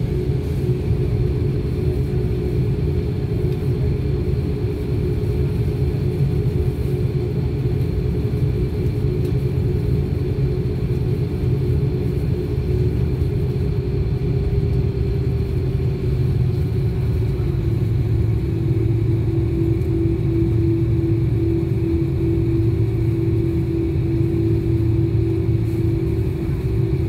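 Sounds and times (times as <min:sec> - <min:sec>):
jet engines heard inside cabin: 0:00.0 - 0:27.0.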